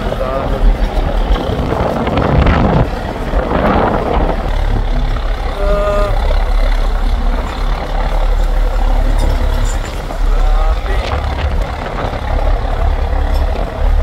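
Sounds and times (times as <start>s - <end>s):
heavy machinery rumbling: 0.0s - 14.0s.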